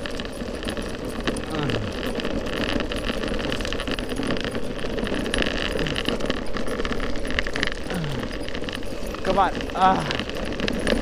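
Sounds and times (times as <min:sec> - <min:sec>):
skateboard rolling on rough asphalt: 0:00.0 - 0:11.0
small ticks and rattles: 0:00.0 - 0:11.0.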